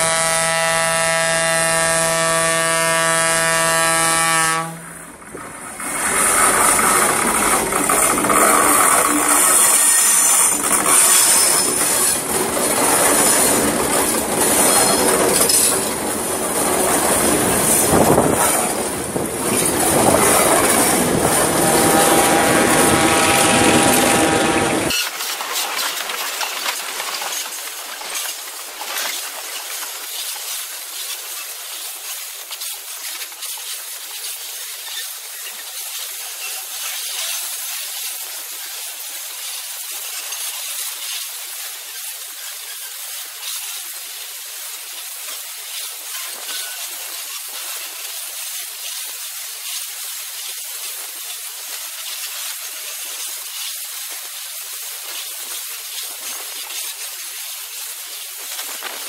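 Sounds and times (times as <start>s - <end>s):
hiss of wheels on rail: 0.0s - 59.0s.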